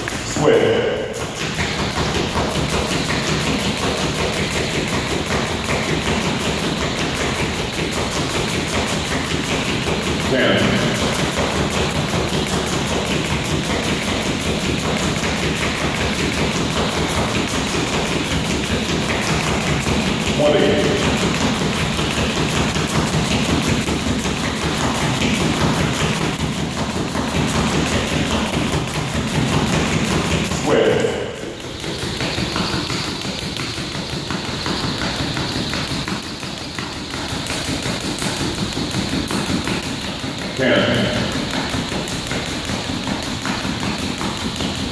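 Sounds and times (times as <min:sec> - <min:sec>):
jump rope striking wooden floor: 0:00.0 - 0:44.9.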